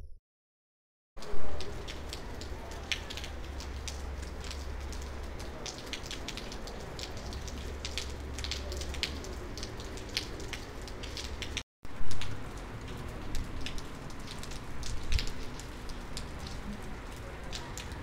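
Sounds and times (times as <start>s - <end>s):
raindrops ticking on surfaces: 1.2s - 18.0s
steady rain: 1.2s - 18.0s.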